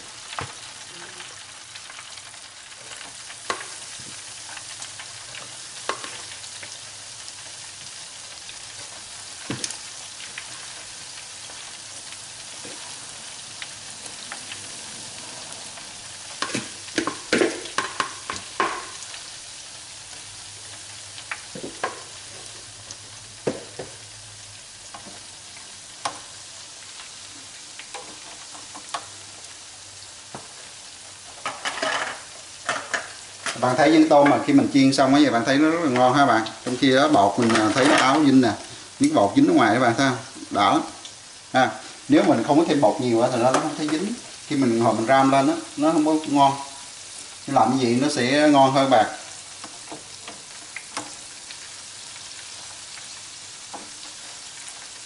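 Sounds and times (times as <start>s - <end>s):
shrimp sizzling in deep fryer: 0.0s - 55.0s.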